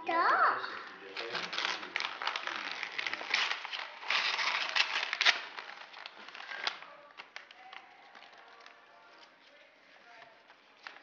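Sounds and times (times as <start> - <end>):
wrapping paper crinkling and tearing: 1.0 - 11.0.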